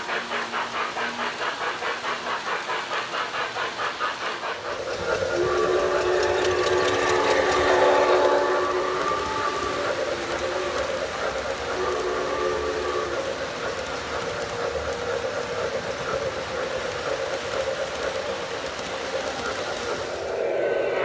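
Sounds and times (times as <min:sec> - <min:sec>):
model train wheels clattering on rails: 0:00.0 - 0:21.0.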